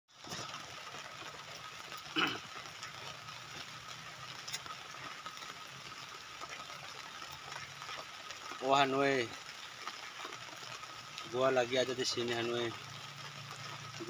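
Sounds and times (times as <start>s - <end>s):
drizzle on a plastic tarp: 0.1s - 14.0s.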